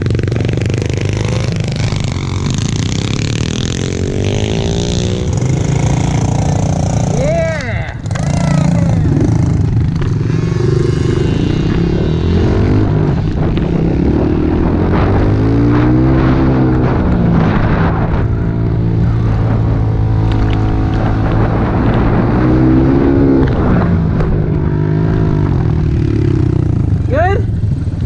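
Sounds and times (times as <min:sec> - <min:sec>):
pit bike engine revving: 0:00.0 - 0:28.0
steady engine drone: 0:00.0 - 0:28.0.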